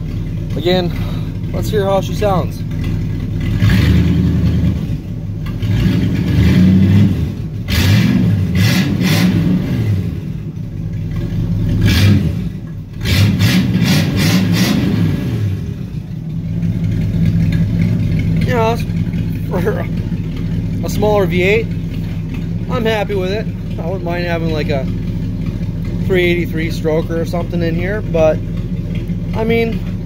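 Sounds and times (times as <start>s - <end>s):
car engine revving with crackles: 0.0s - 30.0s.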